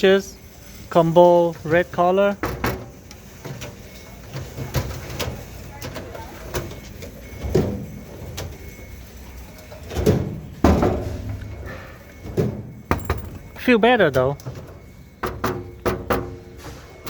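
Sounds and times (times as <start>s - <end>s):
metal drawers sliding: 0.6s - 17.0s.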